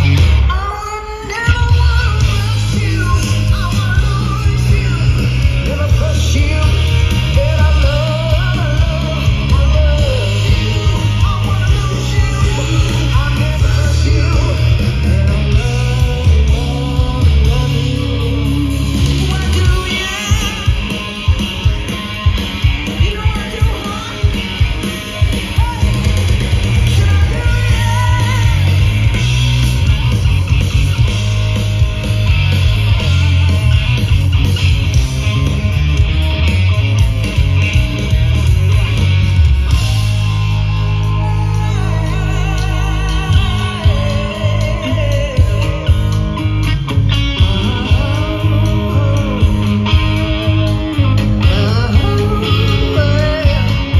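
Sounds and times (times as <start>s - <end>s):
bass guitar: 0.0s - 53.9s
drums: 0.0s - 53.9s
electric guitars: 0.0s - 53.9s
lead vocals: 0.0s - 53.9s.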